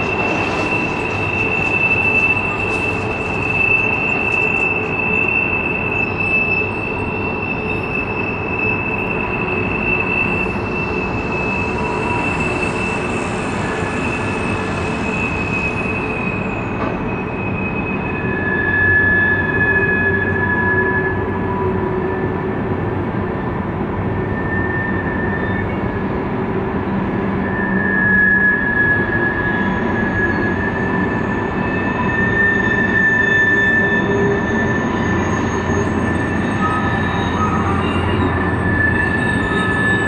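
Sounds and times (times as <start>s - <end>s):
lower wheel squeal: 0.0s - 22.6s, 23.4s - 40.0s
train constant rumble: 0.0s - 40.0s
wheels squealing against rail: 0.0s - 40.0s.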